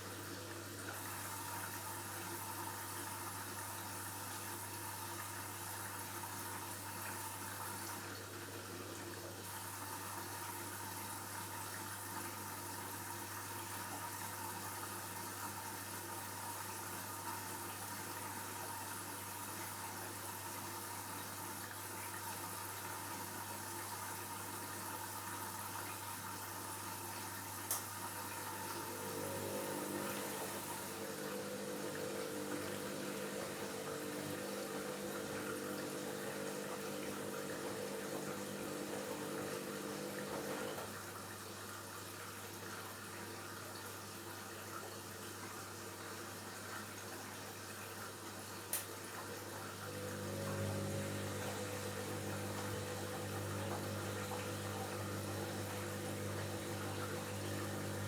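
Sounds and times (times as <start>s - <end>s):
pump humming: 0.0s - 42.5s, 48.2s - 58.0s
washing machine water moving: 0.0s - 58.0s.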